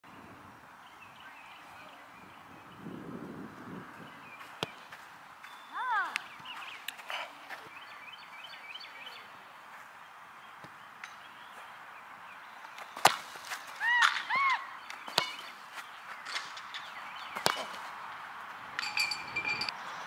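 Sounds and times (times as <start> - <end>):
bird chirping: 0.1 - 3.1, 3.8 - 13.1, 14.3 - 20.0.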